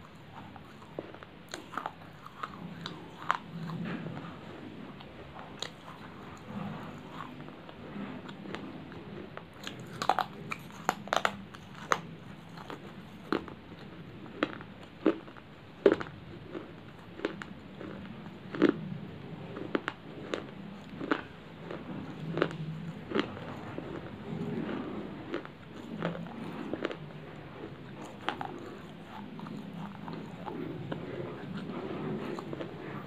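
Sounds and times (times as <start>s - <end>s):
person chewing clay crunching: 0.0s - 33.0s.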